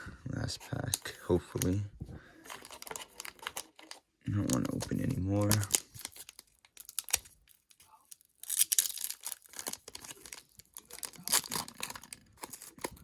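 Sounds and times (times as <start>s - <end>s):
foil wrapper tearing and crinkling: 2.6s - 13.0s.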